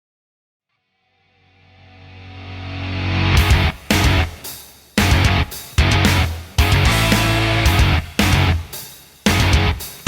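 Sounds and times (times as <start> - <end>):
background music: 1.7 - 10.0.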